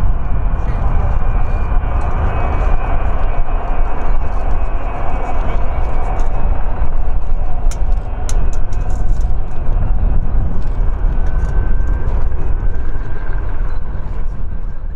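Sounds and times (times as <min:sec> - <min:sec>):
faint thin whine: 0:00.0 - 0:14.9
jet engines rumbling: 0:00.0 - 0:14.9.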